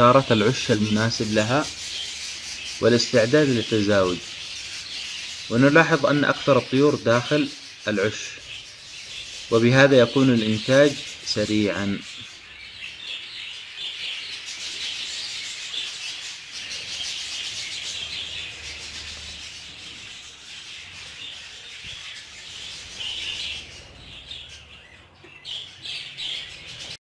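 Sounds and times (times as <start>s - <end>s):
budgerigars chattering: 0.0s - 27.0s.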